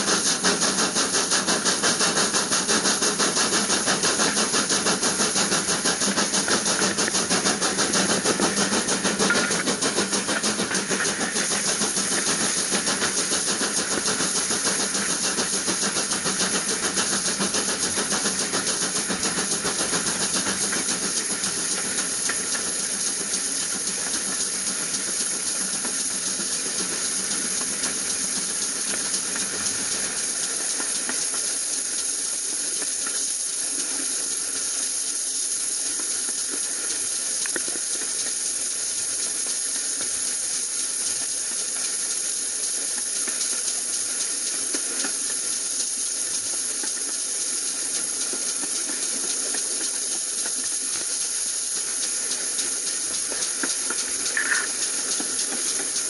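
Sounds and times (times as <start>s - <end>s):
train rushing hiss: 0.0s - 56.0s
faint ticks: 3.7s - 56.0s.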